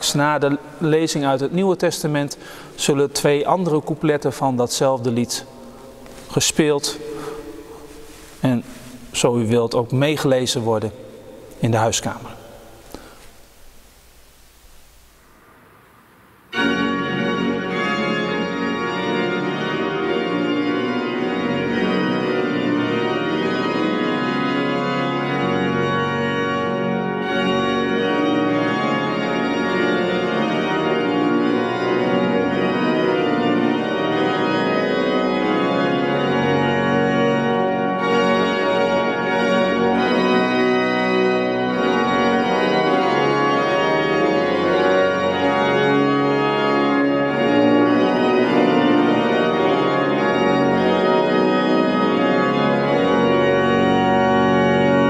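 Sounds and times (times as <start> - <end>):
church organ playing a hymn: 0.0 - 13.3, 16.4 - 55.0.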